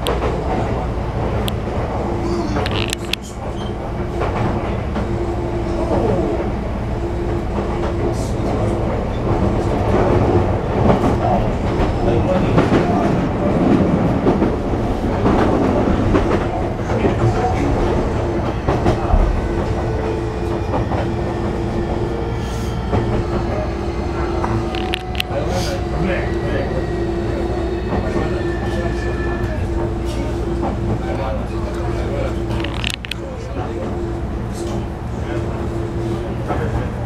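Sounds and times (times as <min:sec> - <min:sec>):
train motor humming tone: 0:00.0 - 0:37.0
train wheels rumbling on rail: 0:00.0 - 0:37.0.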